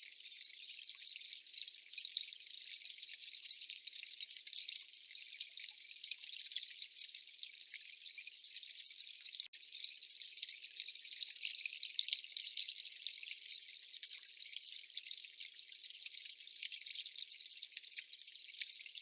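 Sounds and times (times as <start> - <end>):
dripping water patter: 0.0 - 19.0.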